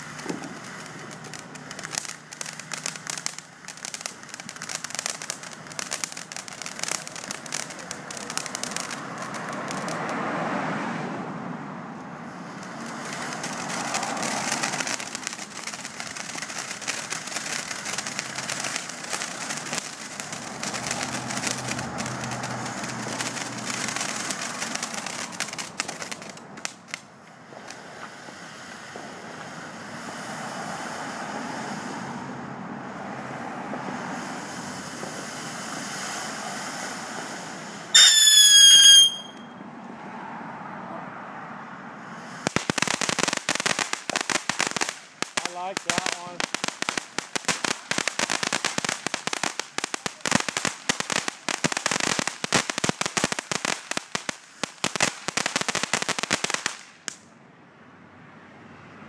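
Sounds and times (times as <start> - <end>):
whistling firework: 0.0 - 11.1, 12.2 - 39.7, 42.0 - 57.3
firework fountain hissing and crackling: 0.0 - 40.1, 41.6 - 57.4.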